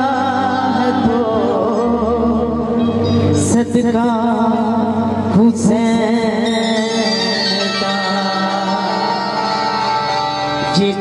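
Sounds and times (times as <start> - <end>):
harmonium: 0.0 - 11.0
woman singing devotional song: 0.0 - 11.0.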